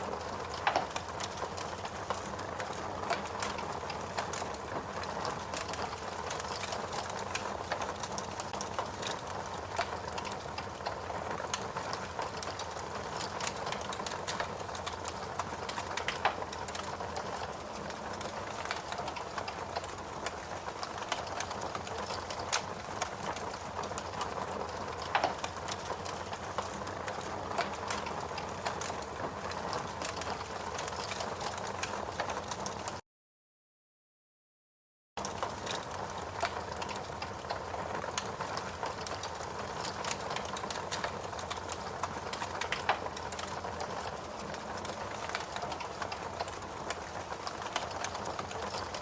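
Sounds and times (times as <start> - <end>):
wood fire crackling: 0.0 - 33.0, 35.2 - 49.0.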